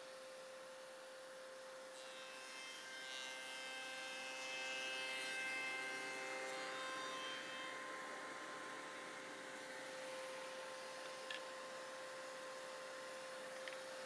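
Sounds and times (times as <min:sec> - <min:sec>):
woodworking machine whining: 0:01.4 - 0:14.0.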